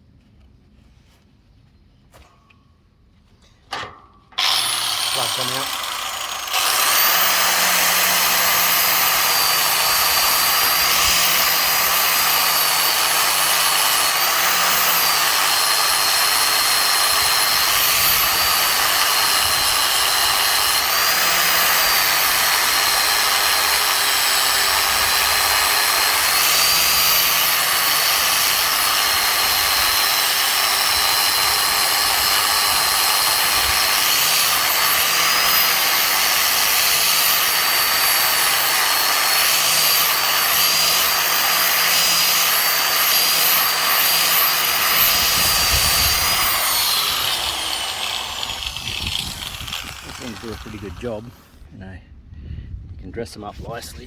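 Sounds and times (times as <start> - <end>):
angle grinder whining on metal: 3.7 - 51.7.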